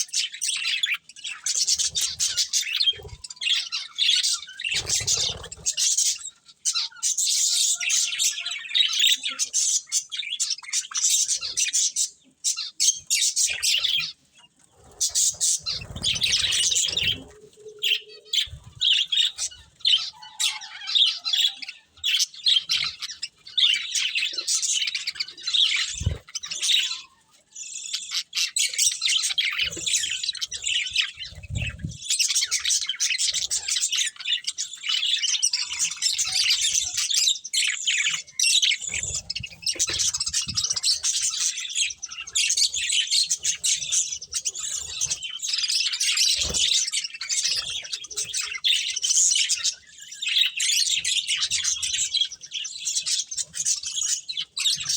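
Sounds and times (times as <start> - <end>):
budgerigars chirping: 0.0 - 54.9.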